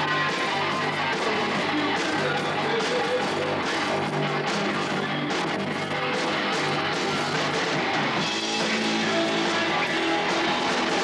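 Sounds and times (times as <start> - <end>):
drums and cymbals: 0.0 - 11.0
electric guitar: 0.0 - 11.0
live rock band playing: 0.0 - 11.0.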